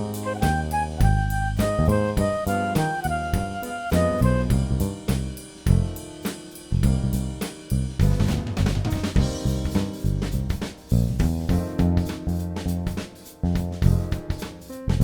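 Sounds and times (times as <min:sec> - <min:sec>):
drum kit steady beat: 0:00.0 - 0:15.0.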